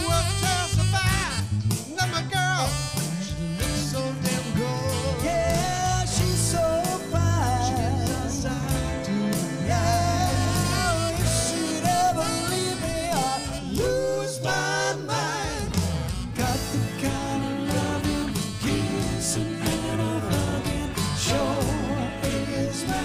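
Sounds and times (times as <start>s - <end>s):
bass guitar: 0.0s - 23.0s
drums: 0.0s - 23.0s.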